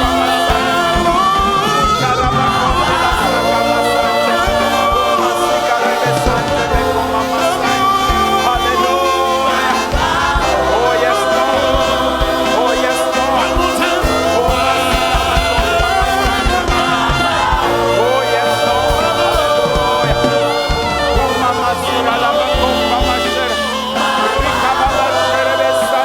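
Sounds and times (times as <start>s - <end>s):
congregation singing: 0.0s - 26.0s
live band with steady beat: 0.0s - 26.0s.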